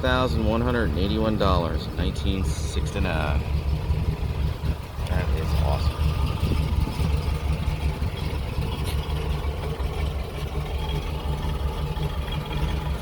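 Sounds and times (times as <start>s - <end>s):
car engine idling with low rumble: 0.0s - 13.0s.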